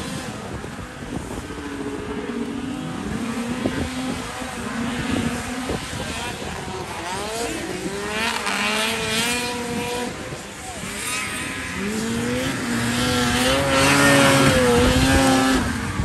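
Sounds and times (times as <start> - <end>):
snowmobile engines revving: 0.0 - 16.0.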